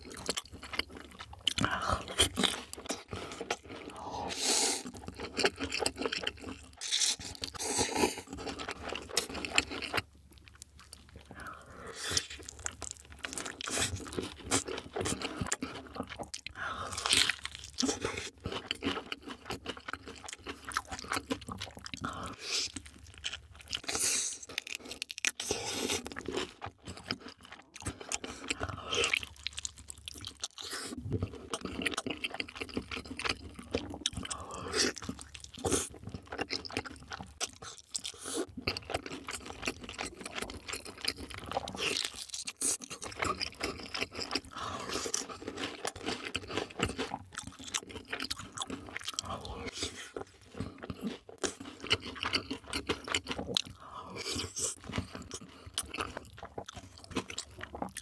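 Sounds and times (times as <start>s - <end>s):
wet sticky chewing sounds: 0.0s - 58.0s
crunching fried chicken: 4.8s - 58.0s.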